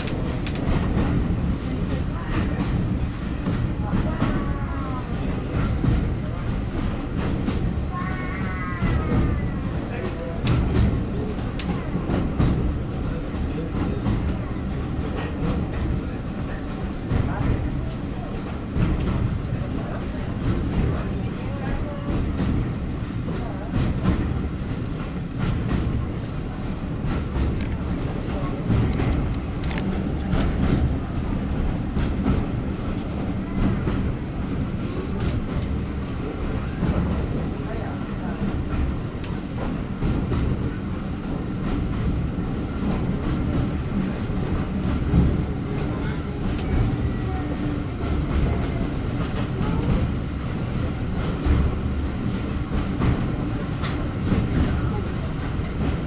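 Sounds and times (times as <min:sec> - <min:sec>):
train rumbling on rails: 0:00.0 - 0:56.0
train wheel clicks and knocks: 0:00.0 - 0:56.0.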